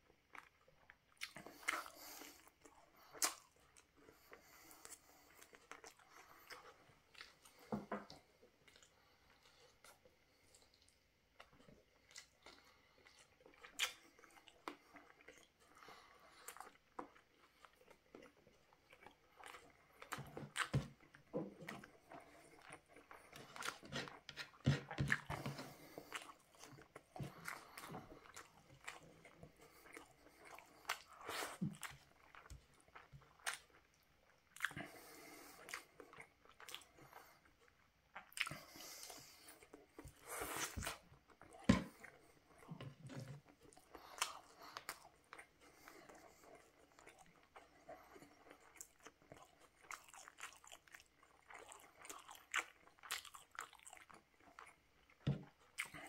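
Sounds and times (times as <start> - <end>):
man chewing food: 0.0 - 56.0.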